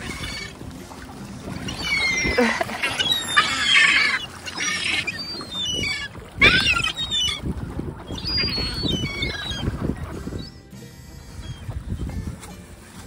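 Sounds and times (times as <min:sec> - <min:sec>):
gulls calling: 0:00.0 - 0:12.4.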